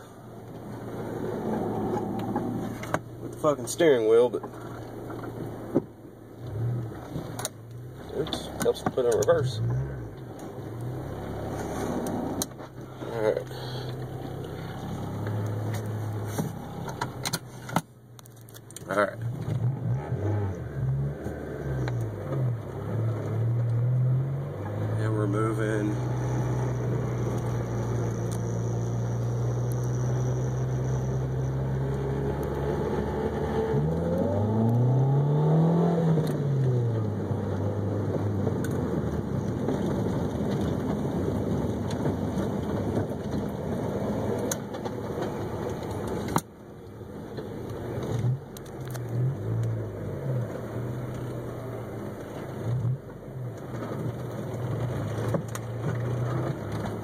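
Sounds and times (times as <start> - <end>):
car engine revving: 0.0 - 17.9, 18.7 - 57.0.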